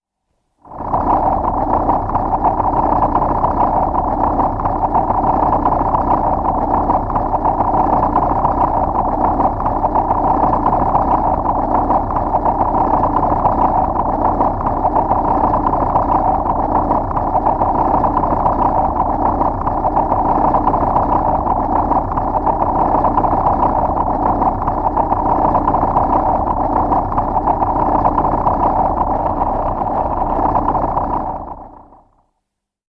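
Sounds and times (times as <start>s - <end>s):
earth rumbling: 0.6s - 32.2s.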